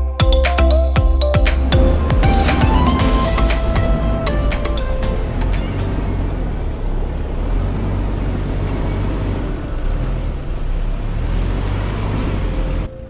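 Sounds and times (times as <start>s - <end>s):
engine and road noise rumble: 1.2s - 13.0s.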